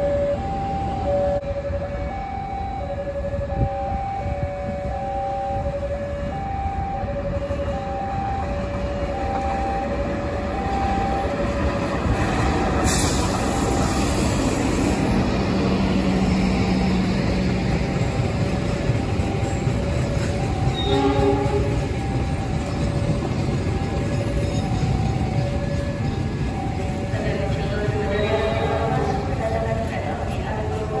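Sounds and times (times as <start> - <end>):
two-tone warning alarm: 0.0 - 15.1, 18.0 - 31.0
locomotive rumble and wheel noise: 0.0 - 31.0.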